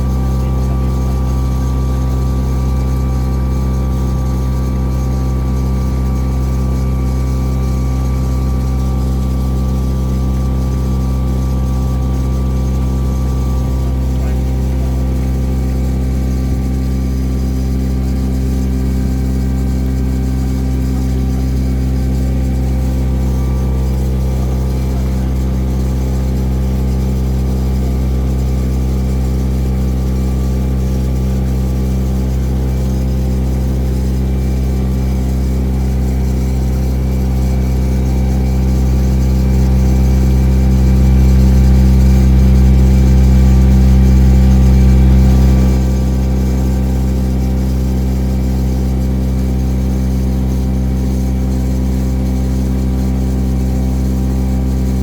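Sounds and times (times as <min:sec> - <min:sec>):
boat engine droning hum: 0:00.0 - 0:55.0.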